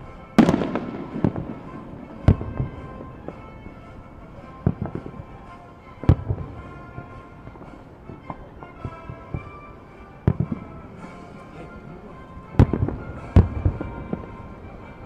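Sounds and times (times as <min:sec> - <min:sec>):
fireworks booming: 0:00.0 - 0:11.8, 0:12.4 - 0:15.0
faint music: 0:00.0 - 0:15.0.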